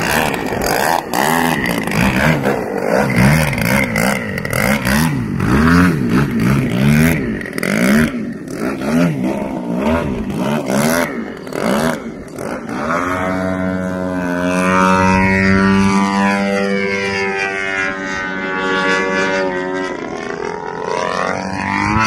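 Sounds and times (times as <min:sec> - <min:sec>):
model plane engine running hard: 0:00.0 - 0:22.0.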